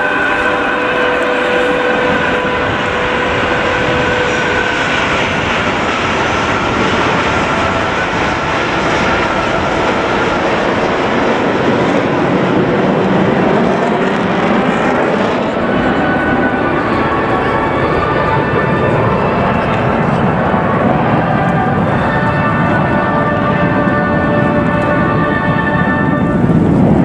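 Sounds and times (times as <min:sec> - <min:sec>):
jet planes flying past: 0:00.0 - 0:27.0.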